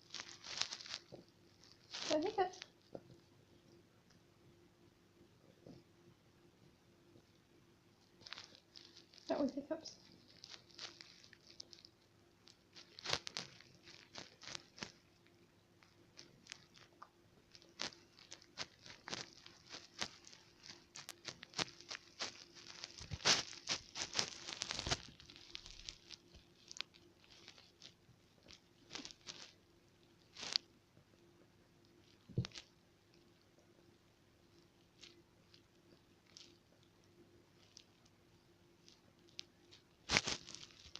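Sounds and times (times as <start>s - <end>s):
rustling and crackling of handling: 0.0s - 4.3s, 5.4s - 40.9s.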